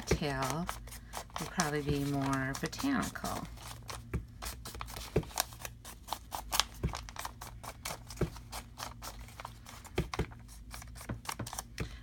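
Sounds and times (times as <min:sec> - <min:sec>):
paper rustling: 0:00.0 - 0:11.7.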